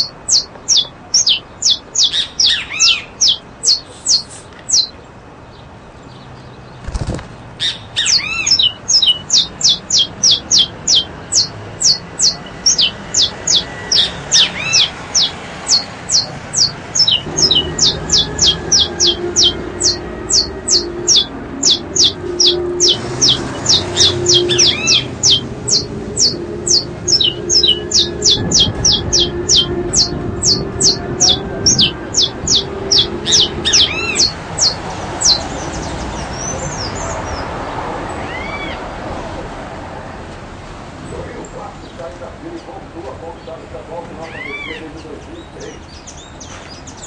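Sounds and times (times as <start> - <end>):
lower arched bird calls: 0.0 - 37.4, 44.2 - 47.0.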